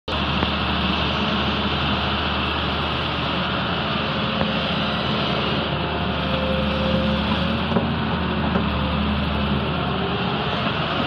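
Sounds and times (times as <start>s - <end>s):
diesel engines under load: 0.1s - 11.0s.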